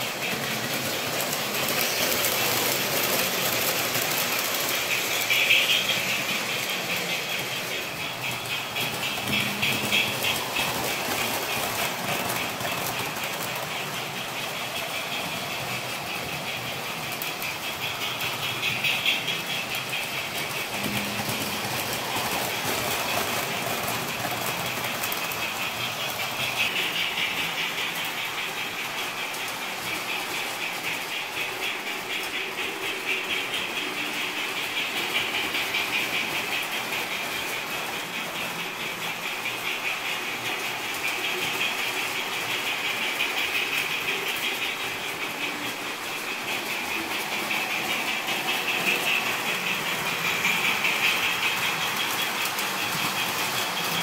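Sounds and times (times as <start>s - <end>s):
model train whirring and clicking: 0.0s - 54.0s.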